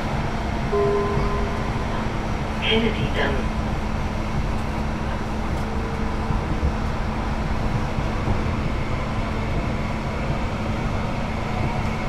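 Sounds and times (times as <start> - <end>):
light-rail car rumble: 0.0 - 12.0.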